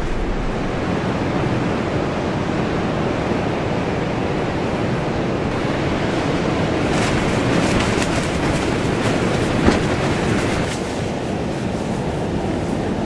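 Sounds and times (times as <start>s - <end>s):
storm wind rushing: 0.0s - 13.0s.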